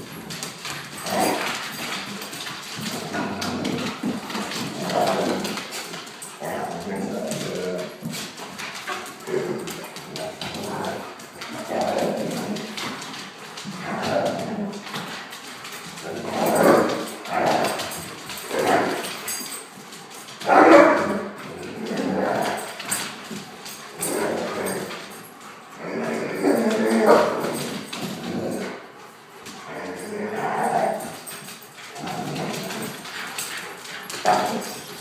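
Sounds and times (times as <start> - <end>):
dogs grumbling during play: 0.0 - 35.0.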